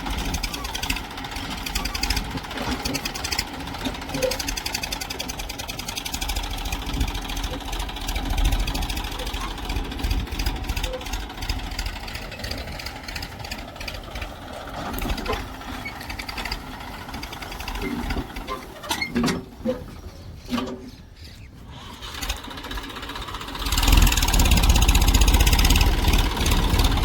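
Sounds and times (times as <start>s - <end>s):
diesel engine running: 0.0s - 21.0s, 21.6s - 27.0s.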